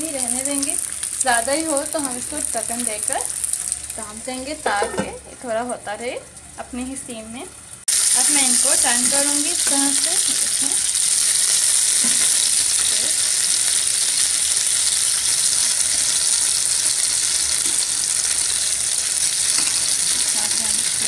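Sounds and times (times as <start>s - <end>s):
chicken sizzling in a pan: 0.0s - 21.0s.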